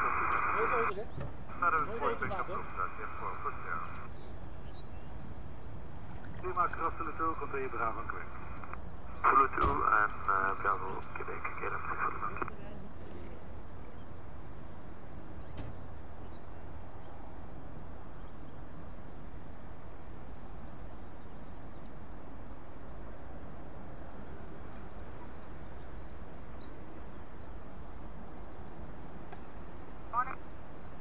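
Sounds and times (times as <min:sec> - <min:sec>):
distant jet engines rumbling: 0:00.0 - 0:31.0.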